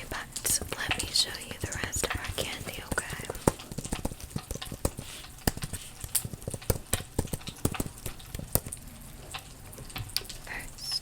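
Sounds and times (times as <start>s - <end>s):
crackling clicks and pops: 0.0s - 11.0s.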